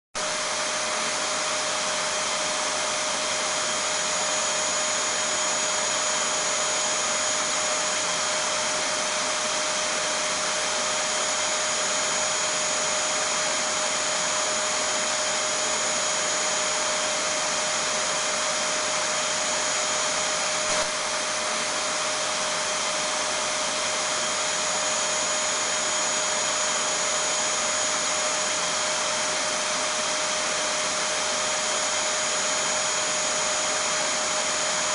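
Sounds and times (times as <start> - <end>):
vacuum cleaner running: 0.2 - 34.9.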